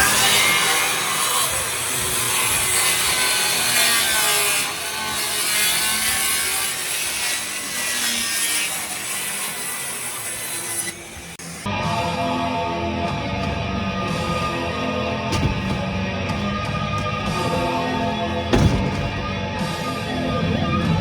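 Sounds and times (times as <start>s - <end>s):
saw cutting through plywood: 0.0s - 11.7s, 13.7s - 20.0s.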